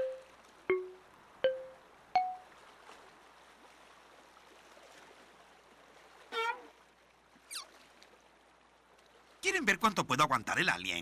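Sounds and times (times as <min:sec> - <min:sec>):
trickling water: 0:00.0 - 0:11.0.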